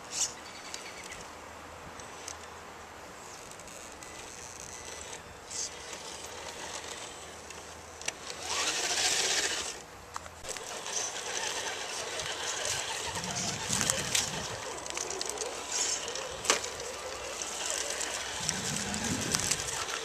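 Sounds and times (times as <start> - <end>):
rc car motor whirring: 3.2 - 20.0.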